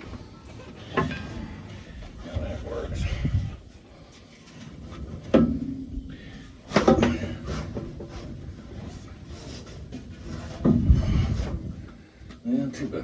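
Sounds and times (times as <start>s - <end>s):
light knocking and scraping: 0.0s - 13.0s.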